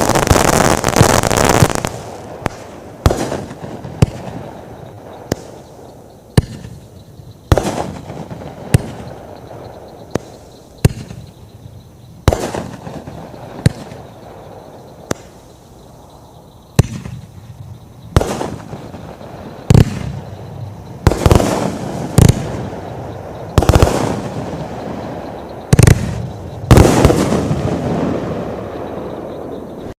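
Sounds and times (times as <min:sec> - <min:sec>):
fireworks bangs: 0:00.0 - 0:11.6, 0:12.2 - 0:15.6, 0:16.7 - 0:29.6
fireworks crackling: 0:00.0 - 0:29.6.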